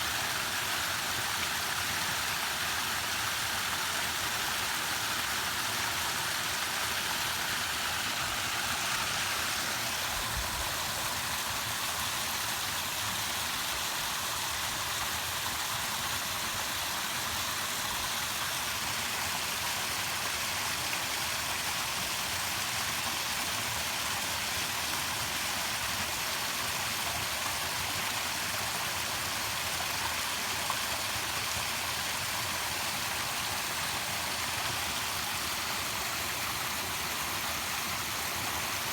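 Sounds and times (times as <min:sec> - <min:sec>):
falling water rushing: 0:00.0 - 0:20.2, 0:25.8 - 0:38.9.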